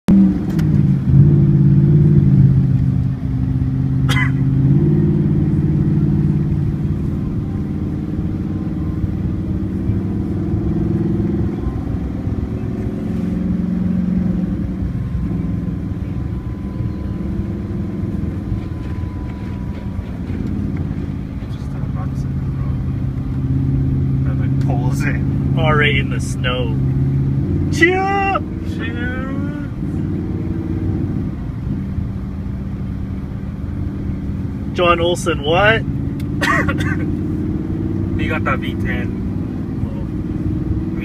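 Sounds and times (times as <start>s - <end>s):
car engine running at low revs: 0.1s - 41.0s.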